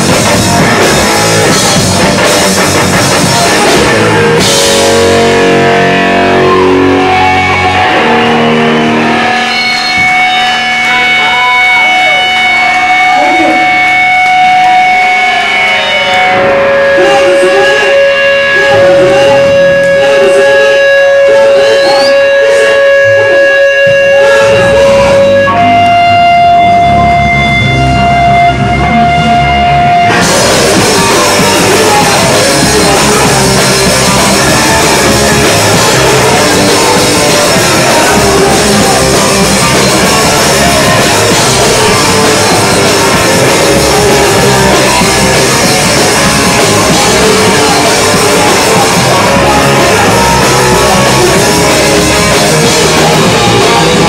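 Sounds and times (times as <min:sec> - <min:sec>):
guitar feedback whine: 0:00.0 - 0:54.0
rock band playing: 0:00.0 - 0:54.0.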